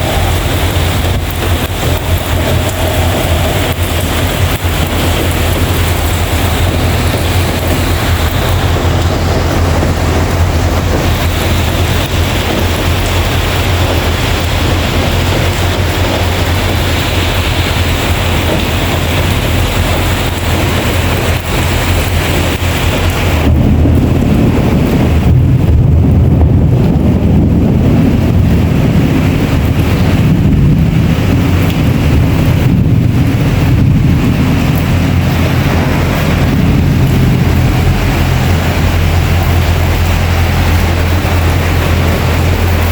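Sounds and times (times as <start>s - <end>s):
heavy rain falling: 0.0s - 42.9s
low rumble: 0.0s - 42.9s.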